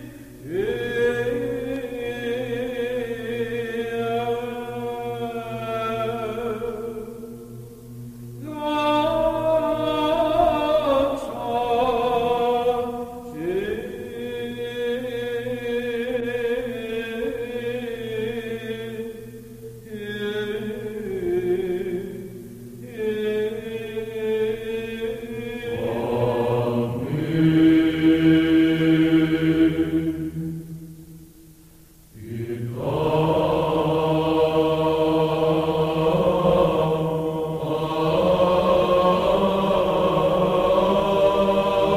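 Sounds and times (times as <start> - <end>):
chanting voices: 0.0 - 41.9.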